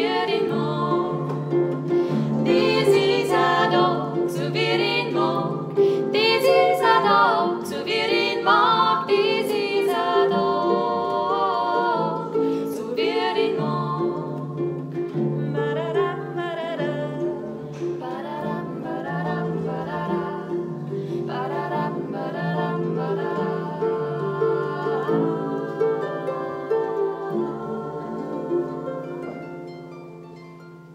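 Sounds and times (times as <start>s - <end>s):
women singing: 0.0s - 29.7s
harp playing: 0.0s - 30.9s.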